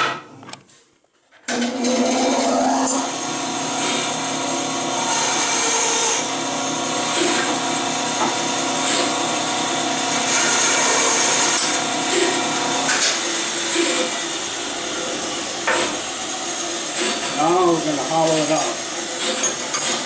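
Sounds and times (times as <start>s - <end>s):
bandsaw cutting wood: 1.5s - 20.0s.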